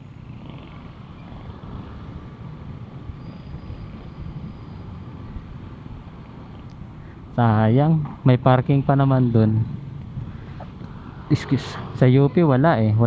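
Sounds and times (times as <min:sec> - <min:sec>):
road and traffic rumble: 0:00.0 - 0:13.0.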